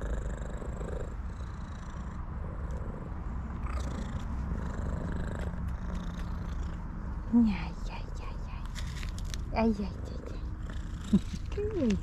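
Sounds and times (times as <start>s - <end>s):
cat purring: 0.0s - 8.7s, 9.6s - 12.0s.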